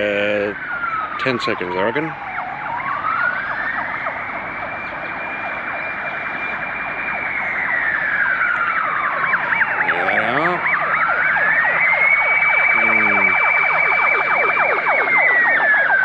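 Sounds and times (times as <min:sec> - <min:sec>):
fast warbling siren: 0:00.0 - 0:16.0
slow wailing siren: 0:00.0 - 0:16.0.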